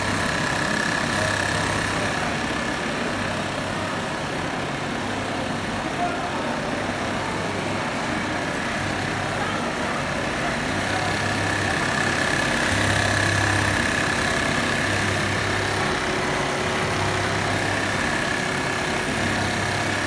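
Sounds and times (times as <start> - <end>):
sewing machine chattering: 0.0 - 20.0.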